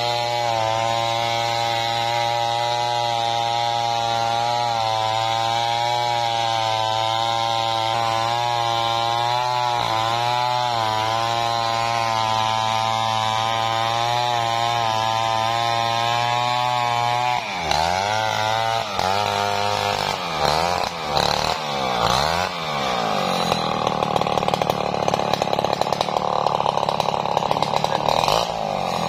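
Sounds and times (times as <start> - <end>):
chainsaw cutting log: 0.0 - 29.0.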